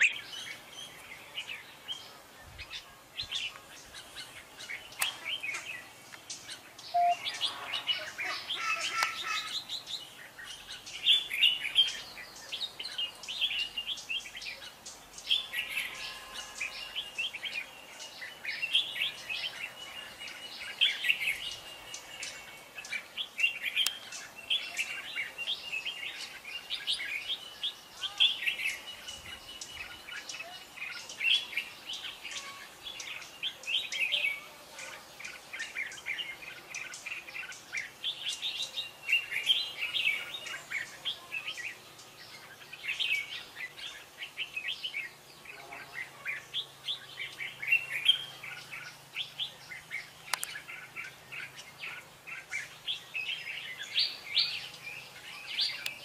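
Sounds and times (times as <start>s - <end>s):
bulbuls chirping: 0.0s - 56.0s.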